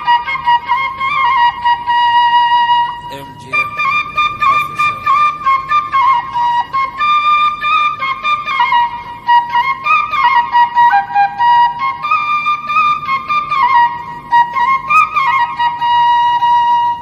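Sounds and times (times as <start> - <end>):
flute melody: 0.0 - 17.0.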